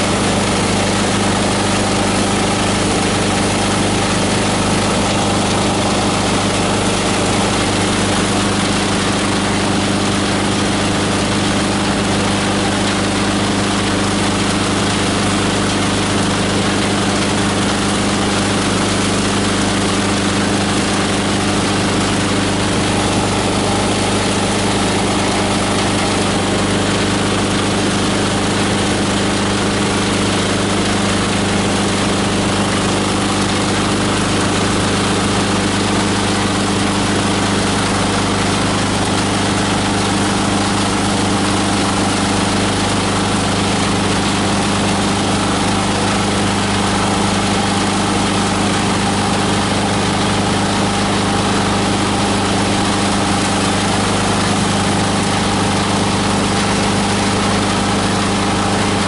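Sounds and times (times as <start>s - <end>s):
diesel engine driving grinder: 0.0s - 59.0s.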